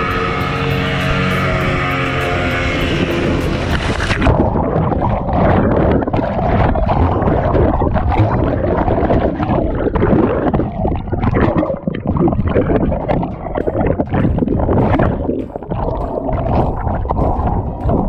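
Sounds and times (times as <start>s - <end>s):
underwater bubbling turbulence: 2.5s - 18.0s.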